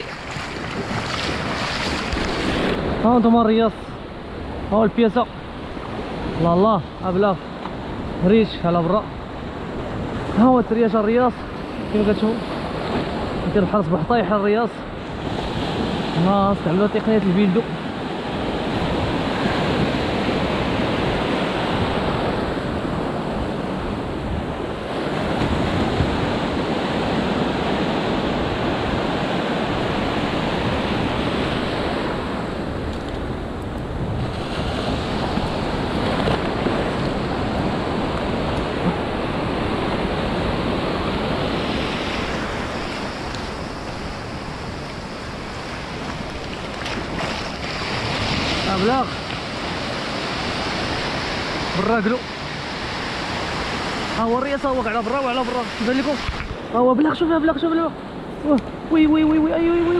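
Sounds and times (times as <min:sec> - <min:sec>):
ocean surf breaking on beach: 0:00.0 - 0:59.9.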